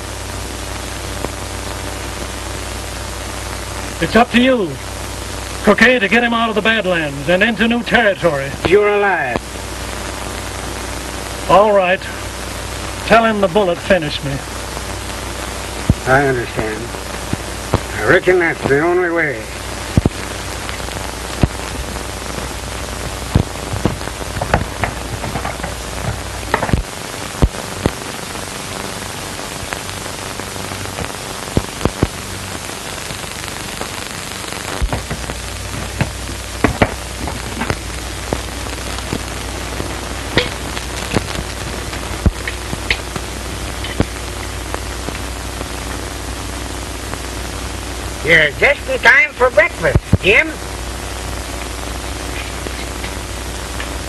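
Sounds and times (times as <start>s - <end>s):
film soundtrack surface noise: 0.0s - 54.0s.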